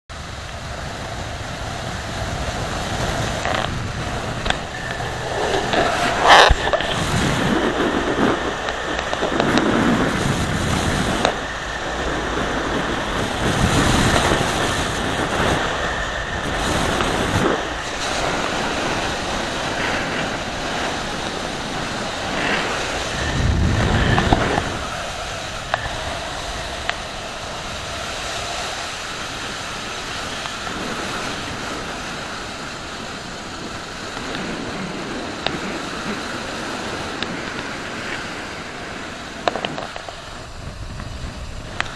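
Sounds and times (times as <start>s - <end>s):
motorcycle road noise: 0.1s - 41.9s
wind buffeting microphone: 0.1s - 41.9s.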